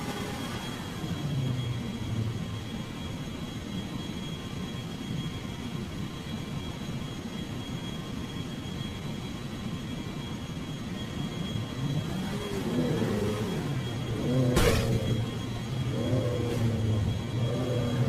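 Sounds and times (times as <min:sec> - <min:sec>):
jet engine rumble with whine: 0:00.0 - 0:18.0.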